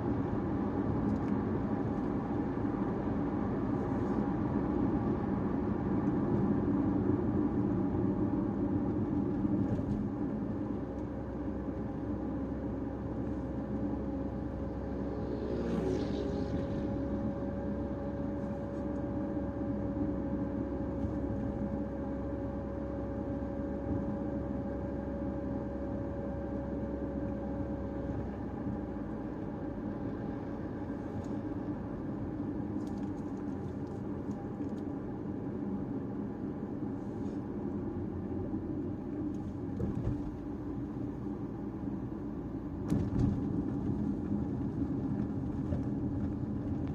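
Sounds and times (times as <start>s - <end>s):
car engine and road noise: 0.0s - 46.9s
faint steady whine: 0.0s - 46.9s.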